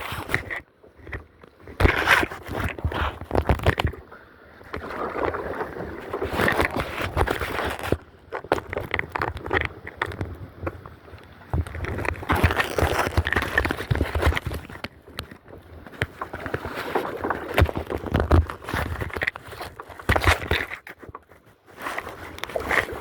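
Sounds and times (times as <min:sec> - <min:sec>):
paddle splashing water: 0:00.0 - 0:23.0.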